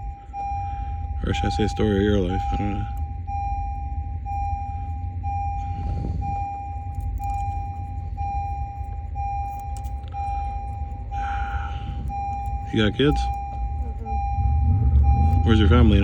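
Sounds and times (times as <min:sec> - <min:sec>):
car warning chime beeps: 0:00.0 - 0:16.0
low rumble: 0:00.0 - 0:16.0.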